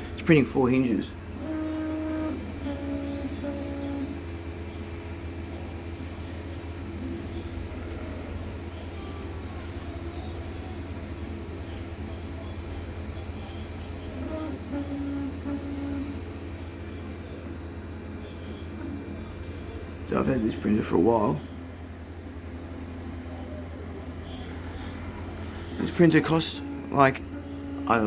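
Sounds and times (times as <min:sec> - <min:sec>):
print head whine: 0:00.0 - 0:28.0
printer stepper motors: 0:00.0 - 0:28.0
steady low hum: 0:00.0 - 0:28.0.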